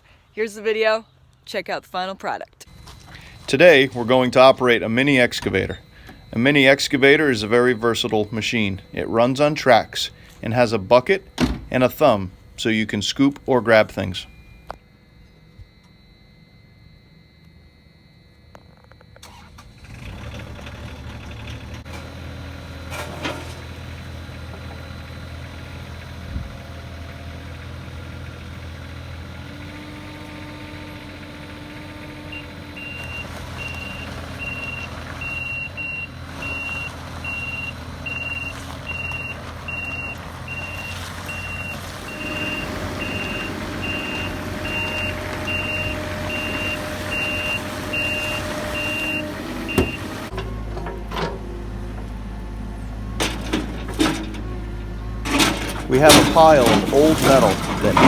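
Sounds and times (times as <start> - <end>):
reversing alarm beeps: 2.6 - 51.3
excavator diesel engine running: 2.7 - 16.0, 19.2 - 58.0.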